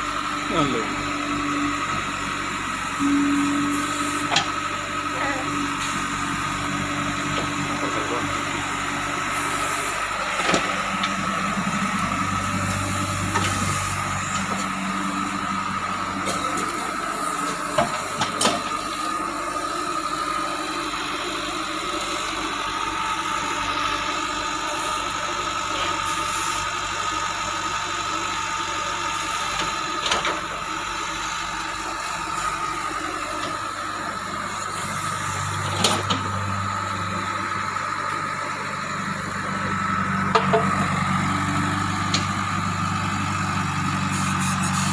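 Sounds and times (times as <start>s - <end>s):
diesel engine running: 0.0s - 44.9s
steady high whine: 0.0s - 44.9s.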